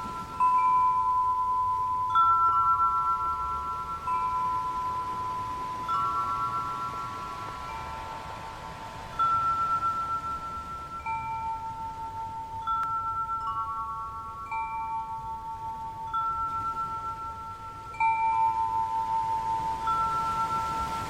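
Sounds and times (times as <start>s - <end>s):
metal chimes ringing: 0.0s - 21.0s.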